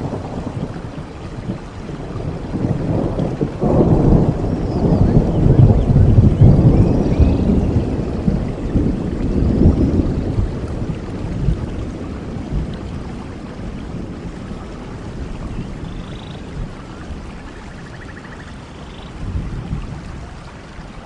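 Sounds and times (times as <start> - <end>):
low rumble of thunder: 0.0 - 21.0
rain falling: 0.0 - 21.0.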